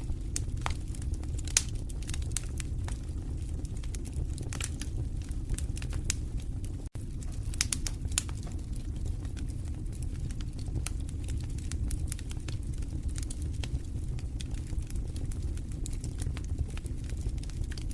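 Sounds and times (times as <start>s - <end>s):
low rumble of flames: 0.0s - 17.9s
wood fire crackling and popping: 0.0s - 17.9s.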